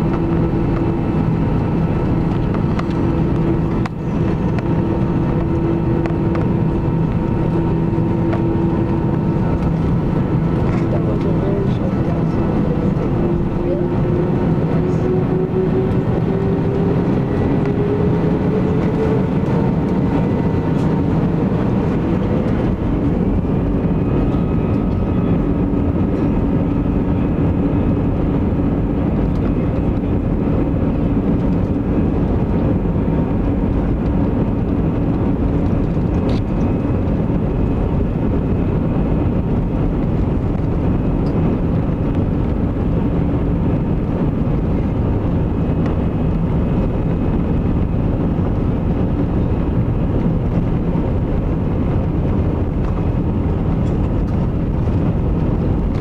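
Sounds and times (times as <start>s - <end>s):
jet engines roaring with whine: 0.0s - 56.0s.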